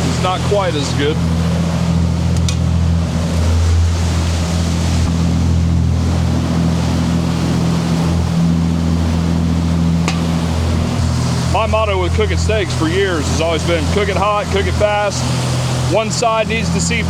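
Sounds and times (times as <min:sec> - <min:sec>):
diesel engines droning: 0:00.0 - 0:17.0
rushing wind and water: 0:00.0 - 0:17.0.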